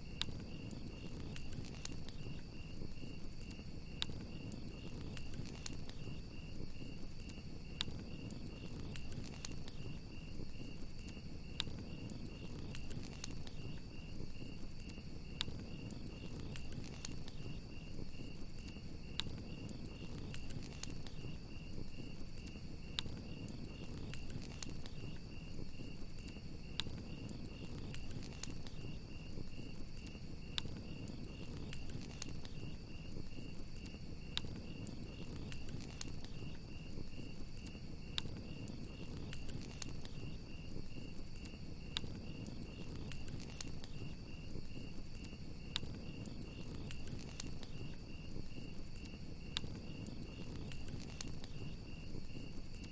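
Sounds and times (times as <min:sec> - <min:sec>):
campfire crackling and popping: 0:00.0 - 0:52.9
crickets chirping: 0:00.0 - 0:52.9
low rumble of flames: 0:00.0 - 0:52.9.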